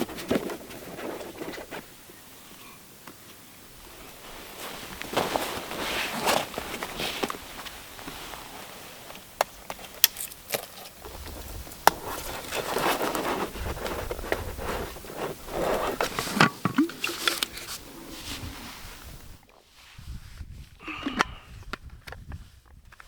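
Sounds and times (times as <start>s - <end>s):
rustling and scraping: 0.0s - 2.0s, 3.8s - 20.8s.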